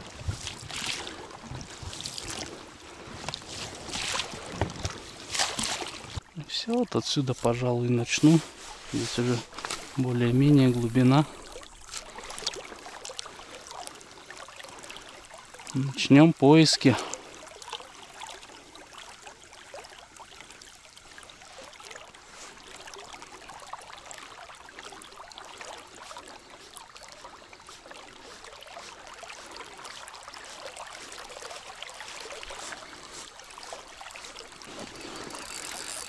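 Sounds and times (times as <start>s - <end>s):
water splashing around oar: 0.0s - 36.0s.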